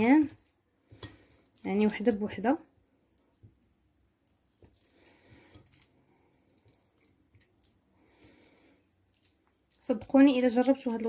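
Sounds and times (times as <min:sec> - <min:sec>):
hands squelching raw chicken: 0:00.0 - 0:11.0.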